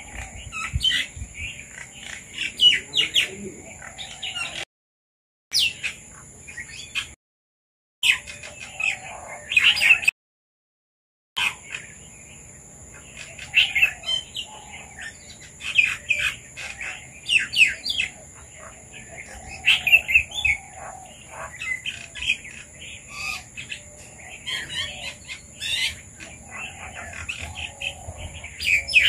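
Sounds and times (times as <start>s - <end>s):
birds chirping: 0.0s - 4.7s, 5.5s - 7.2s, 8.0s - 10.1s, 11.4s - 29.0s.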